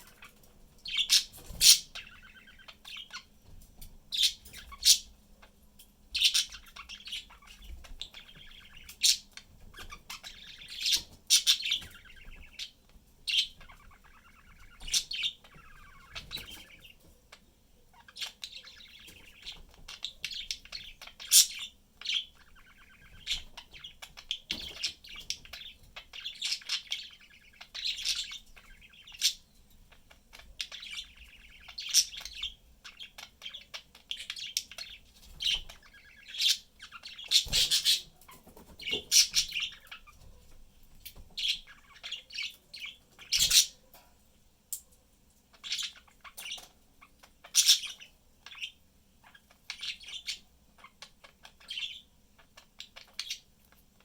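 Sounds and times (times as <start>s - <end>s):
budgerigars chirping and warbling: 0.0s - 44.0s, 45.5s - 54.0s.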